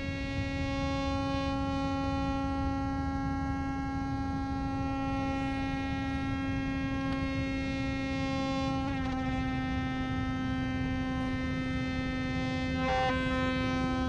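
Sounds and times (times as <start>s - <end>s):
instrument drone note: 0.0s - 14.0s.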